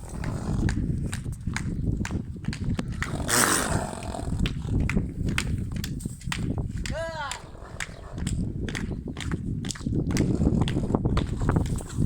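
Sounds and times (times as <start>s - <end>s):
horse hooves knocking on ground: 0.0s - 12.0s.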